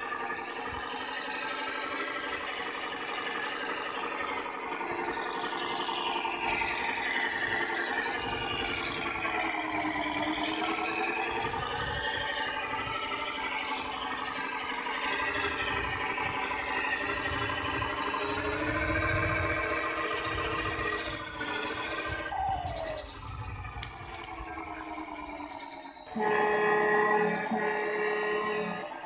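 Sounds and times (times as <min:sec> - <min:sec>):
rattle: 0:00.0 - 0:26.1
toy truck motor whine: 0:00.0 - 0:29.0.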